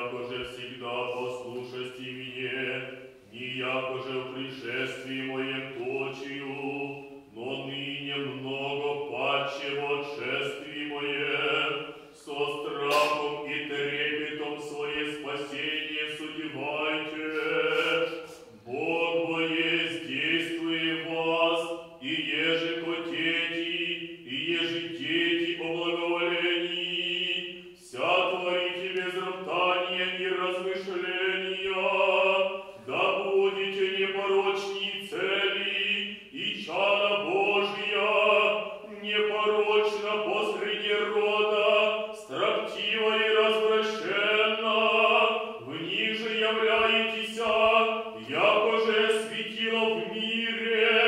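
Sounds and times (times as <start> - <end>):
voices chanting together: 0.0 - 51.0.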